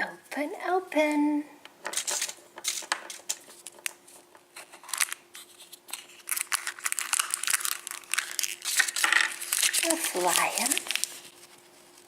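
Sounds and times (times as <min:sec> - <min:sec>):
thin wrapping crinkling and tearing: 0:01.9 - 0:12.0.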